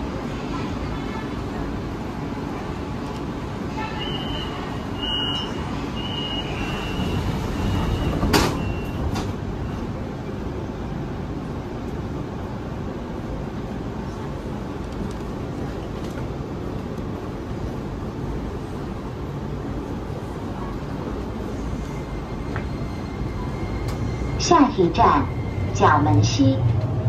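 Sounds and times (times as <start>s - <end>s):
train running: 0.0s - 27.0s.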